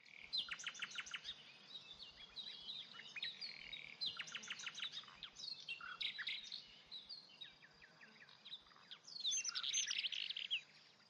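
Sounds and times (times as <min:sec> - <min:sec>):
songbirds singing and chirping: 0:00.0 - 0:11.0.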